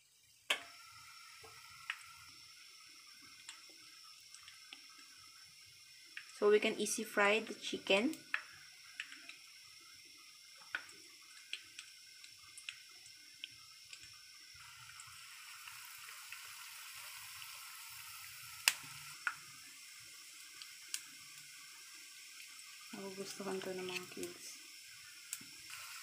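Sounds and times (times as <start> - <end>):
chicken frying in hot oil: 0.0 - 26.0.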